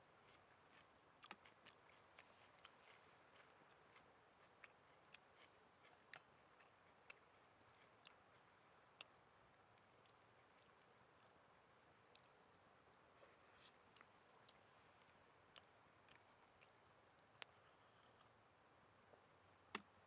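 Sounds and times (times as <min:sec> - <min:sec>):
low steady hiss: 0:00.0 - 0:20.0
faint sharp clicks and crackles: 0:00.1 - 0:18.4.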